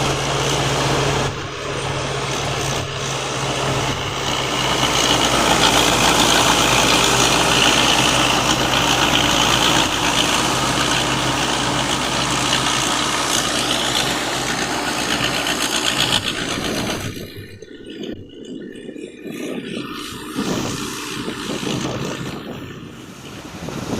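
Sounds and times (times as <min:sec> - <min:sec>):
combine harvester diesel engine: 0:00.0 - 0:23.9.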